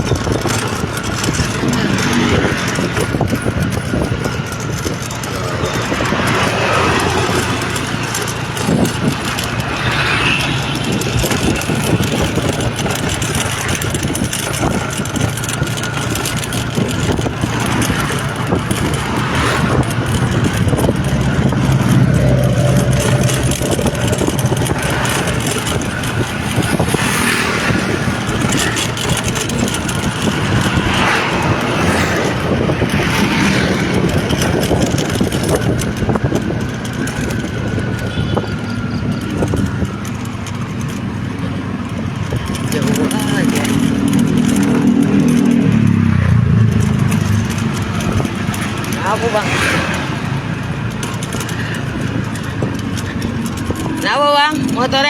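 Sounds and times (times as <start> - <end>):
road noise: 0.0 - 55.0
vehicle engine hum: 0.0 - 55.0.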